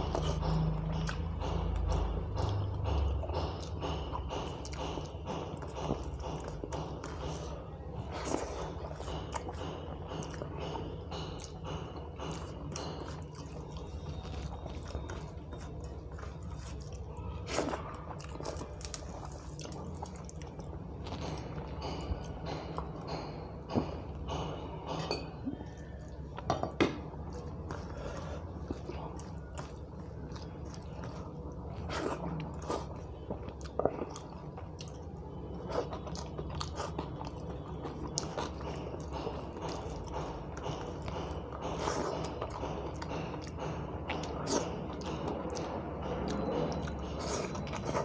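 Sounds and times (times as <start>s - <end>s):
chewing: 0.0s - 48.0s
steady low hum: 0.0s - 48.0s.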